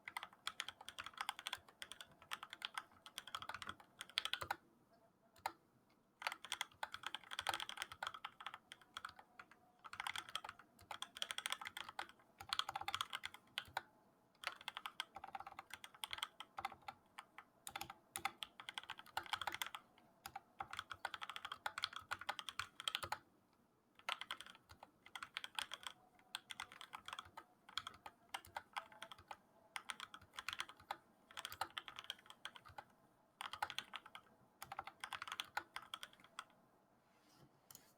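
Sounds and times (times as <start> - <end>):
mechanical keyboard typing: 0.1 - 4.6, 6.2 - 13.8, 14.4 - 17.0, 17.6 - 23.2, 24.0 - 36.5.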